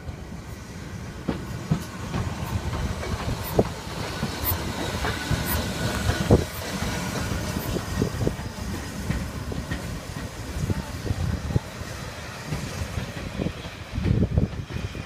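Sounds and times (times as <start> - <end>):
steam train rolling past: 0.0 - 15.0.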